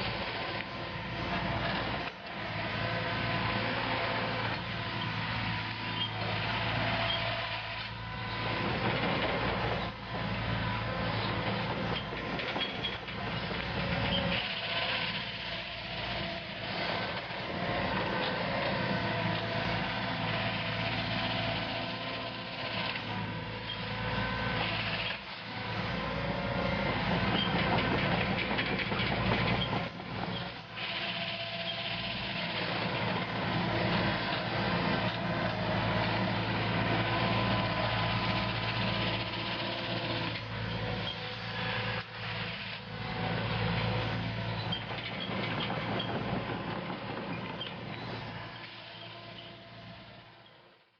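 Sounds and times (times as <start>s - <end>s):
excavator diesel engine running: 0.0s - 50.7s.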